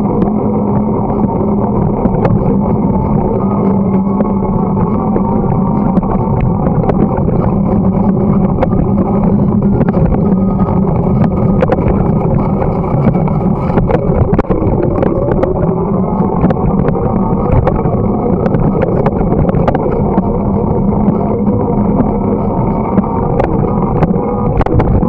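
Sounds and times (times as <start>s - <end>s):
wind over microphone: 0.0s - 25.0s.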